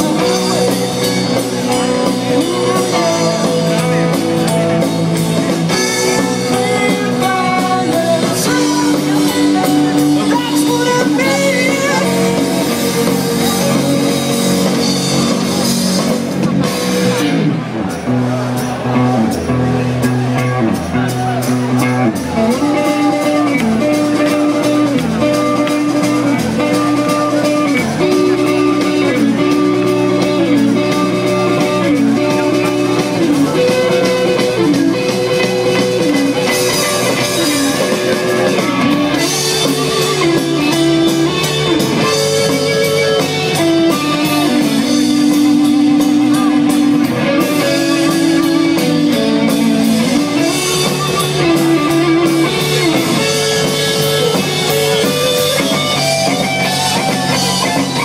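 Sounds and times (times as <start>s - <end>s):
bass guitar: 0.0s - 58.0s
drum kit: 0.0s - 58.0s
electric guitars: 0.0s - 58.0s.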